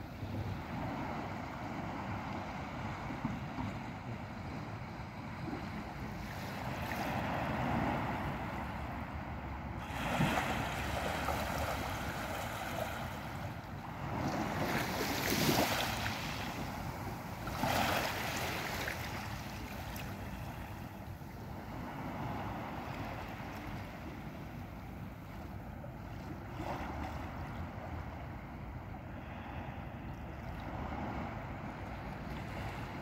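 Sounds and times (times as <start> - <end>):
small waves lapping on beach: 0.0 - 33.0.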